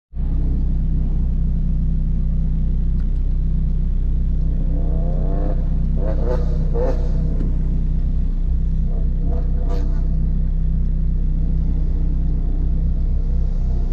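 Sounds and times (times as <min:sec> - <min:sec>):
car engine idling: 0:00.1 - 0:13.9.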